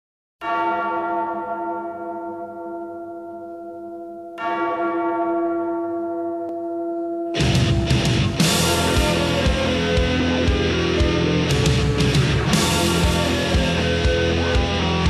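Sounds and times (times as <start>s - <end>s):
deep bell ringing: 0.4s - 15.0s.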